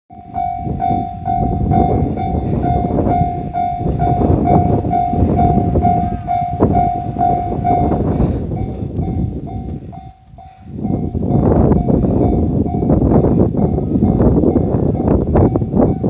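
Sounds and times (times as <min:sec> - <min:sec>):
freight train rumbling: 0:00.1 - 0:16.0
level-crossing alarm ringing: 0:00.1 - 0:16.0.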